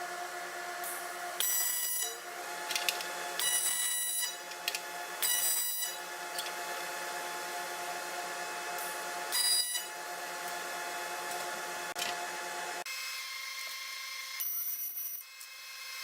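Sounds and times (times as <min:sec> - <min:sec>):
welding arc buzzing: 0:00.0 - 0:12.8.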